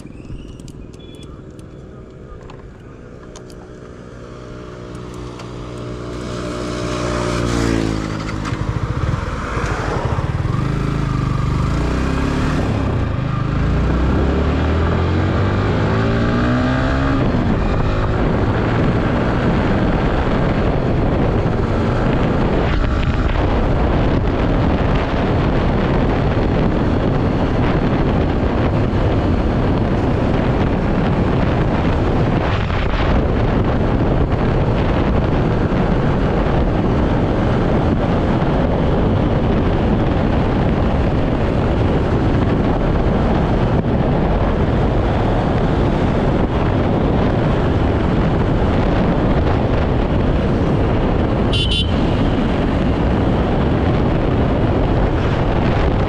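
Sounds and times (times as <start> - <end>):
motorcycle engine accelerating: 0.0 - 56.0
wind on microphone: 0.0 - 56.0.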